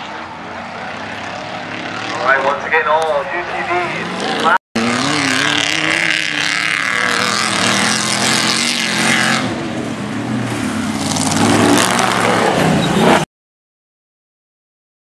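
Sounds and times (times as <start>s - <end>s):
race truck engines revving: 0.0s - 13.3s.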